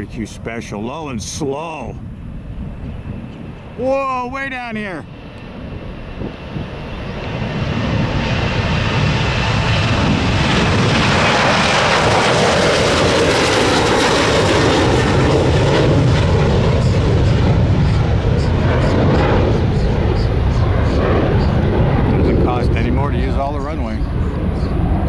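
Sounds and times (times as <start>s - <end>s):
high jet engine whine: 0.0s - 25.0s
jet engine roar: 0.0s - 25.0s.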